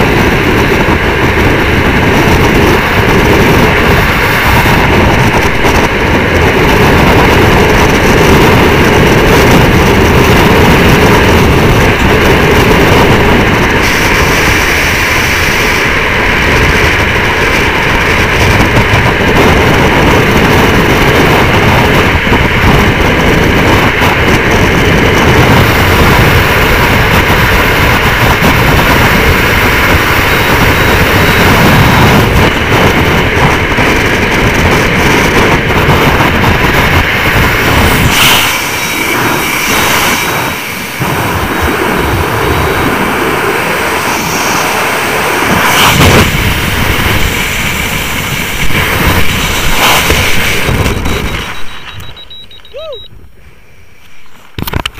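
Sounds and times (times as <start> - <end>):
wind buffeting microphone: 0.0 - 53.5, 54.1 - 54.9.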